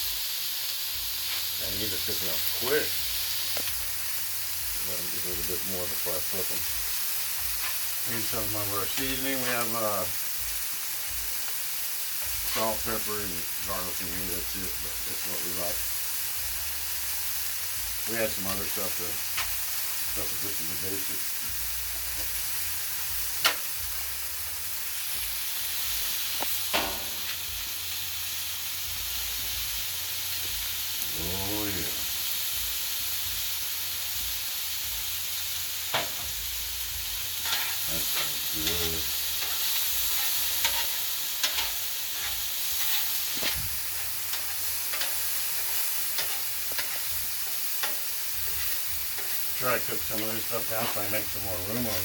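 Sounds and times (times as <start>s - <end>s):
meat sizzling on a griddle: 0.0s - 52.0s.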